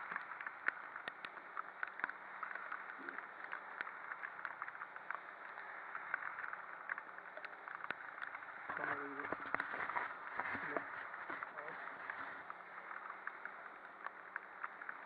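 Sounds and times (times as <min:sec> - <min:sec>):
rain and tyre spray hiss: 0:00.0 - 0:15.0
raindrops ticking on camera: 0:00.0 - 0:15.0.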